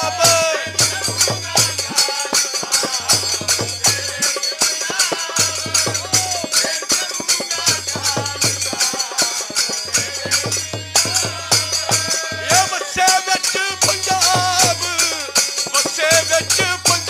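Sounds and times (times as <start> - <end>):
sharp percussion beat: 0.0 - 17.0.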